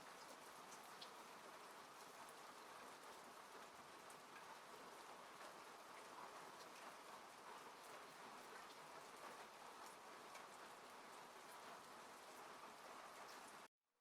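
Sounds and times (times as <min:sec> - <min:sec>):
rain on a car roof: 0:00.0 - 0:13.7.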